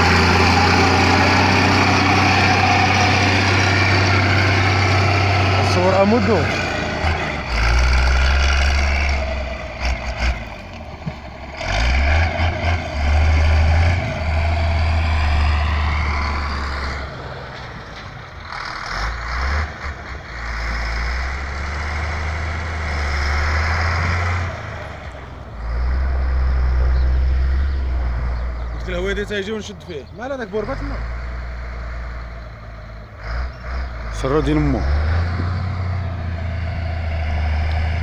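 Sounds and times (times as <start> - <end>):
heavy trucks running: 0.0 - 38.0
road-works machinery rumbling: 0.0 - 38.0.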